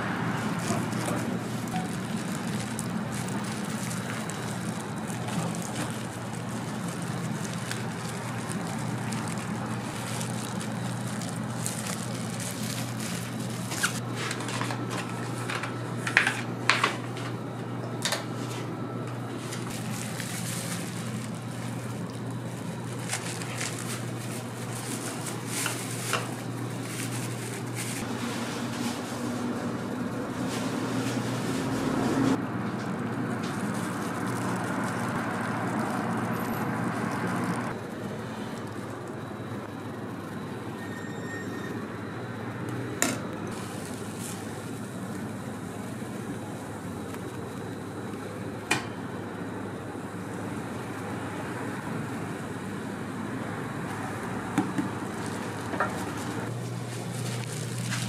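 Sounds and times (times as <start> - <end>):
low hum of surroundings: 0.0 - 58.0.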